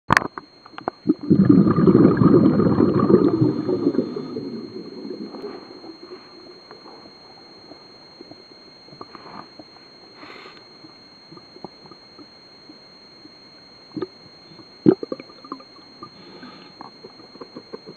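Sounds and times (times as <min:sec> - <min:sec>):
underwater bubbling and crackling: 0:00.1 - 0:09.8, 0:10.7 - 0:17.9.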